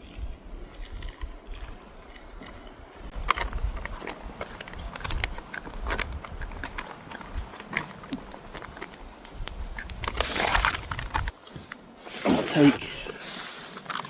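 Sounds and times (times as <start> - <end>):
clothing and gear rustling: 0.0 - 14.0.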